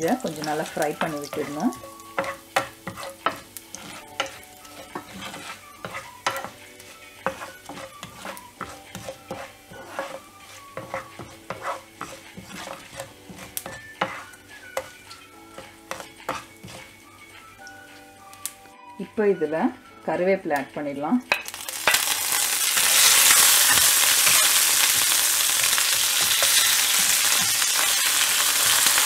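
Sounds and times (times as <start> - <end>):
spices sizzling in hot oil: 0.0 - 19.3, 20.9 - 29.0
wooden spatula clicks and scrapes: 0.2 - 17.4, 21.8 - 29.0.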